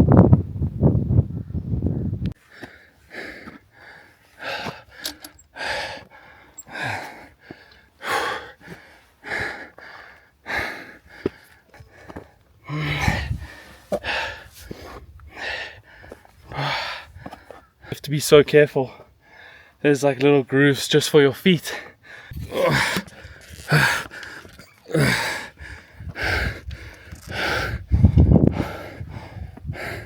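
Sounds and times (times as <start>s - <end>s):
man breathing hard: 2.4s - 17.9s, 18.9s - 19.8s, 21.7s - 30.0s.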